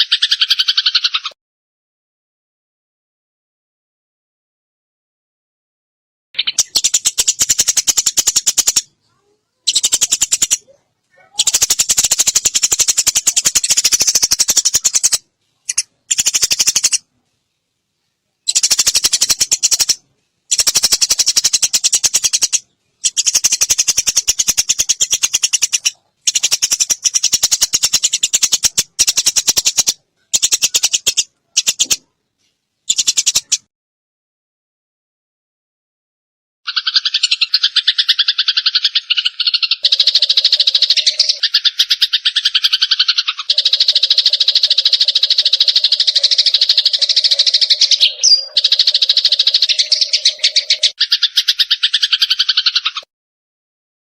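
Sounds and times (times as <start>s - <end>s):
sparrows chirping harshly: 0.0s - 1.4s, 6.4s - 17.1s, 18.0s - 32.1s, 32.8s - 33.7s, 36.7s - 53.1s.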